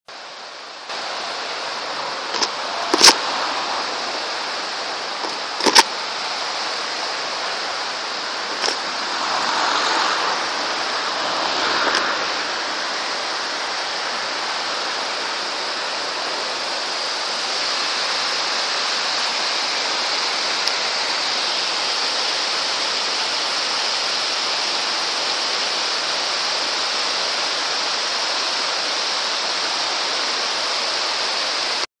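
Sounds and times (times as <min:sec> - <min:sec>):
mountain torrent rushing: 0:00.1 - 0:31.9.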